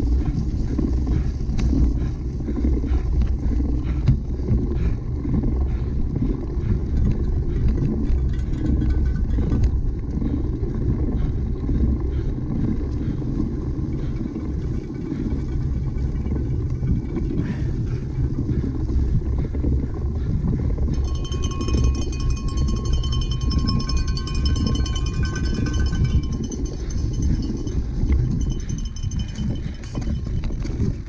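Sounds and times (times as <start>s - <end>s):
bicycle tyres on rough ground: 0.0s - 31.0s
wind buffeting microphone: 0.0s - 31.0s.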